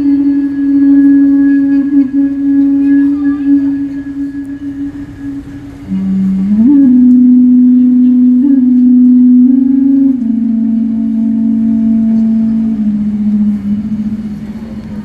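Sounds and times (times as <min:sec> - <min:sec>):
fainter higher tone: 0:00.0 - 0:15.0
held synthesizer tone: 0:00.0 - 0:15.0.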